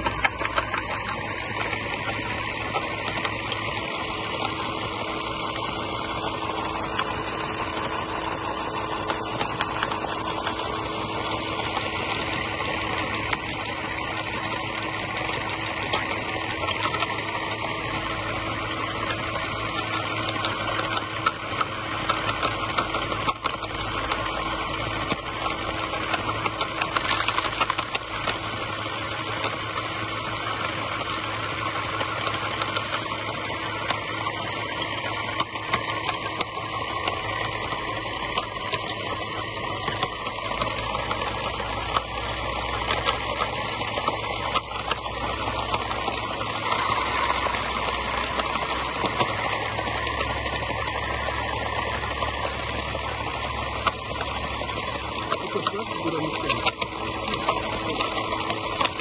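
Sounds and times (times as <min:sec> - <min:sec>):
electric pump whirring: 0:00.0 - 0:59.0.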